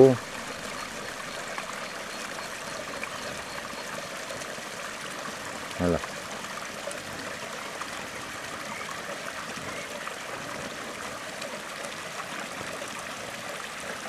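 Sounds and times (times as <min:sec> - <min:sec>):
water splashing over stones: 0:00.0 - 0:14.0.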